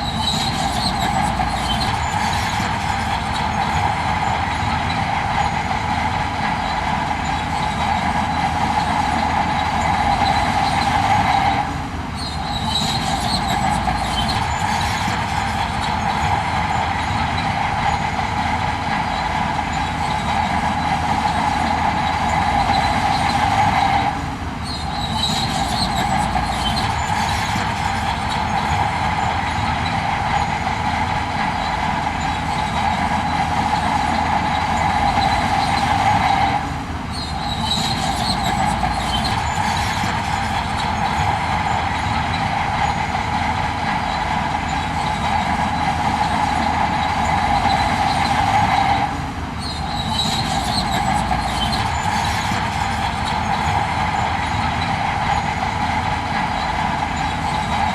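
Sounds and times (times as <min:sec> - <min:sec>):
heavy machinery engine drone: 0:00.0 - 0:57.9
high metallic squeaks: 0:00.0 - 0:57.9.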